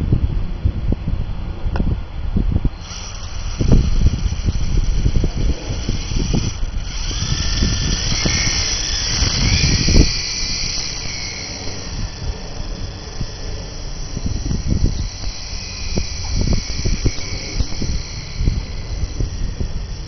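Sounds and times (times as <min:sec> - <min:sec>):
wind buffeting microphone: 0:00.0 - 0:20.0
electric helicopter motors whining: 0:02.6 - 0:20.0.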